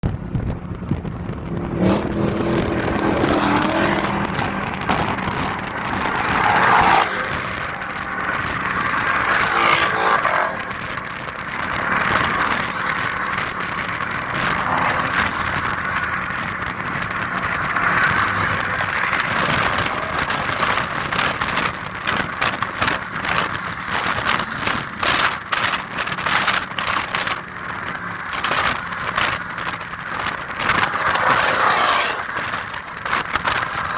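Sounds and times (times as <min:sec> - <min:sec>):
cars driving past revving: 0:00.1 - 0:33.9.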